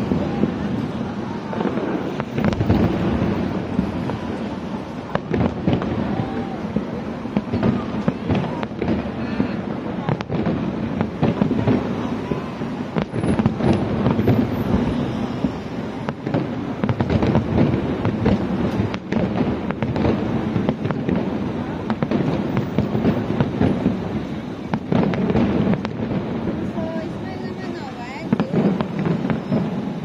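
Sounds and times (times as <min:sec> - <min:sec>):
fireworks bursts and crackles: 0:00.0 - 0:30.0
sharp firework cracks: 0:00.0 - 0:30.0.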